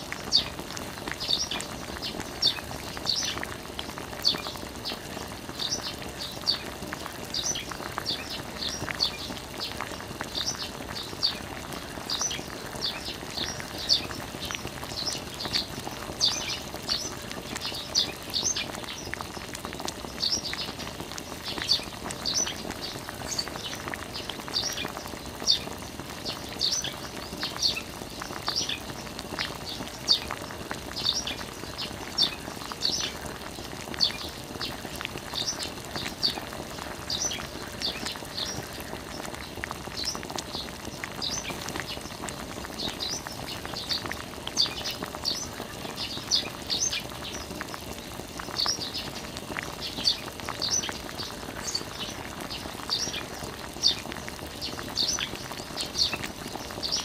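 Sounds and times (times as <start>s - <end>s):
water trickling onto soil: 0.0s - 57.0s
birds chirping: 1.1s - 3.5s, 4.2s - 57.0s.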